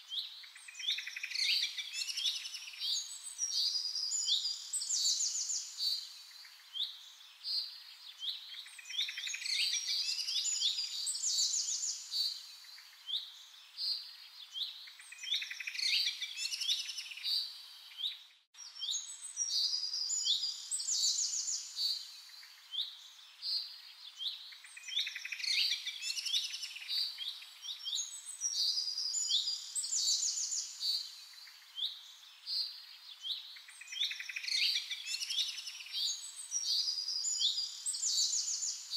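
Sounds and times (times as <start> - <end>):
faint hiss: 0.0 - 38.9
songbirds singing and chirping: 0.0 - 38.9.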